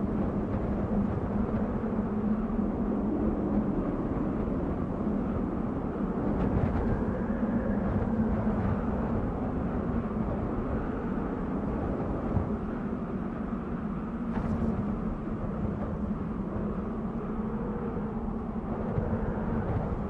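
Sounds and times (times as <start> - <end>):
wind blowing steadily: 0.0 - 20.0.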